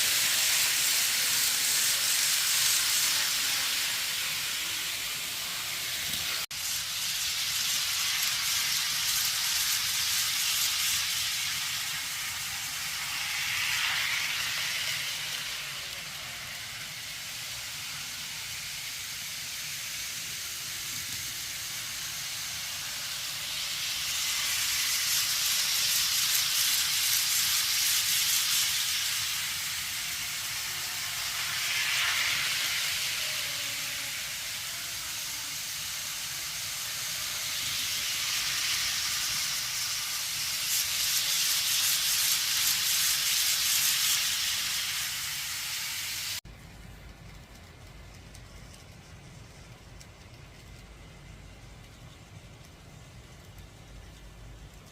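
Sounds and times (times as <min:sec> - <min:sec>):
model trains whirring on track: 0:00.0 - 0:54.9.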